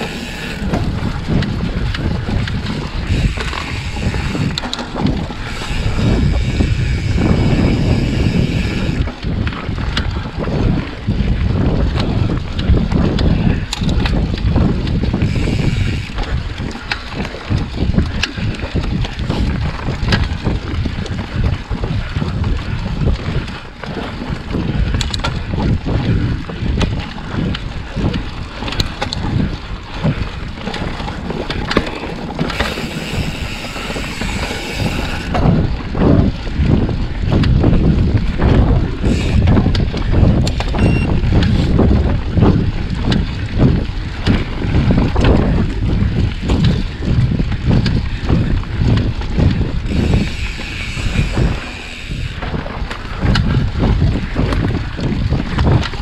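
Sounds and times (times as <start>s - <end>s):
bike clicks and rattles: 0.0s - 56.0s
wind buffeting microphone: 0.0s - 56.0s.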